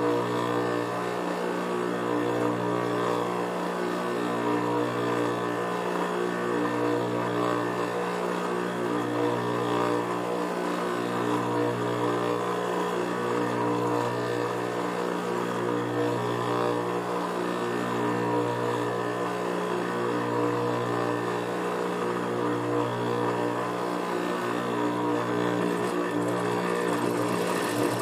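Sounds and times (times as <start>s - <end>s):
sewing machine motor hum: 0.0s - 28.0s.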